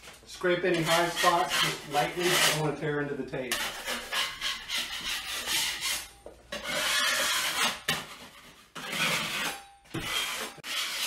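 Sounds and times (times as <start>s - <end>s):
taping knife scraping ceiling: 0.4s - 2.8s, 3.5s - 11.0s.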